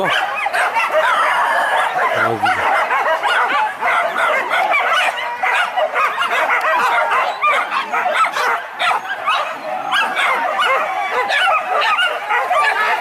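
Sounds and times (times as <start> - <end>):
dogs barking and yelping: 0.0 - 13.0.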